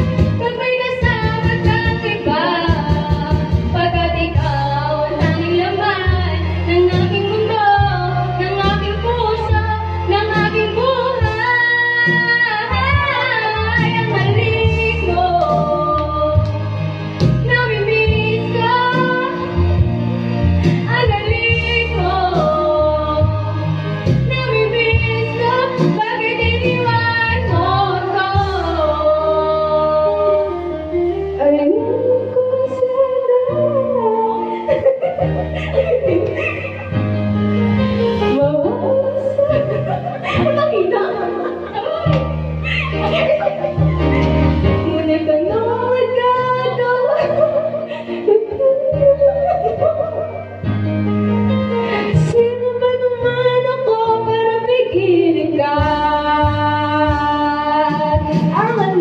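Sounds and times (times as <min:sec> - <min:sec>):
woman singing karaoke: 0:00.0 - 0:20.0, 0:20.6 - 0:37.4, 0:38.1 - 0:50.8, 0:52.0 - 0:59.0
backing track with bass line: 0:00.0 - 0:59.0.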